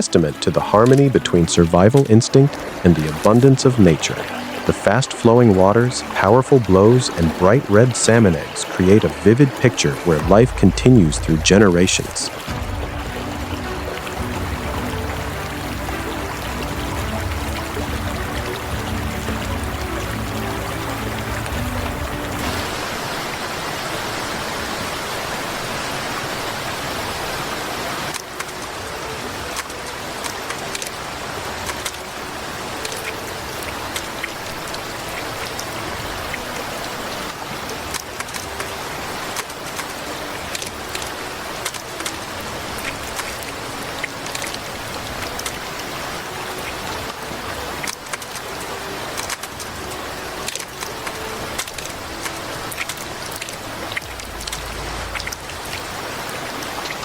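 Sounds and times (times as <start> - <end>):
flowing water with splashes: 0.0 - 57.0.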